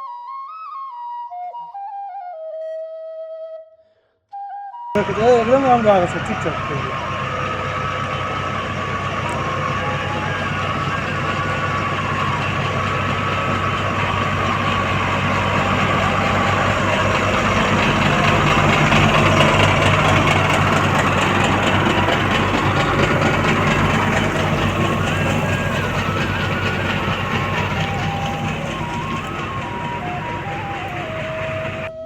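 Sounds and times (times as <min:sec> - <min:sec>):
heavy machinery engine running: 0:05.0 - 0:31.9.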